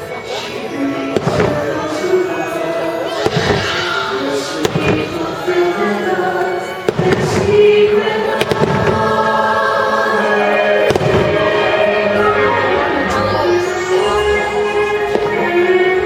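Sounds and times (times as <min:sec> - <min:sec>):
fireworks bursting: 0:00.6 - 0:16.0.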